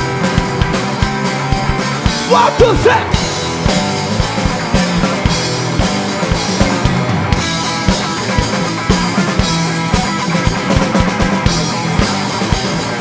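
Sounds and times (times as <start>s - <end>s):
amplified electric guitars: 0.0s - 13.0s
drum kit beat: 0.0s - 13.0s.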